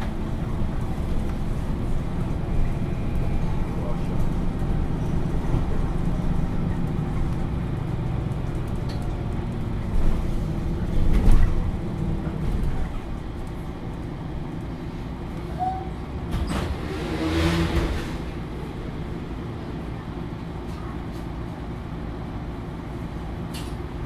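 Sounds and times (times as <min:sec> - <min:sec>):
bus diesel engine rumble: 0:00.0 - 0:24.0.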